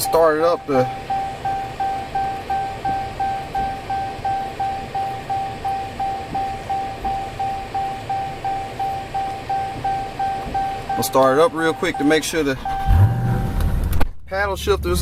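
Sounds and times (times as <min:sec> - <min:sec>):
dashboard warning chime beeping: 0:00.0 - 0:13.5.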